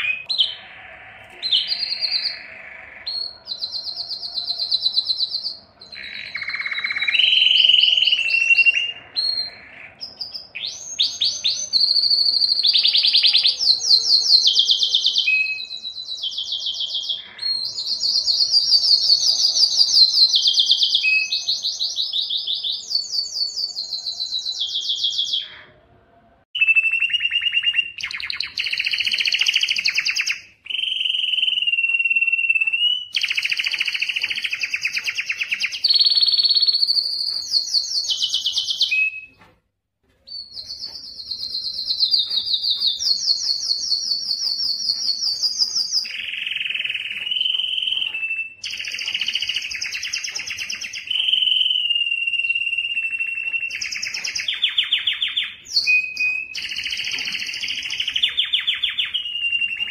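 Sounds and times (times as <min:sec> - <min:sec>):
canary singing trills: 0:00.0 - 0:25.9, 0:26.6 - 0:39.5, 0:40.2 - 0:59.9.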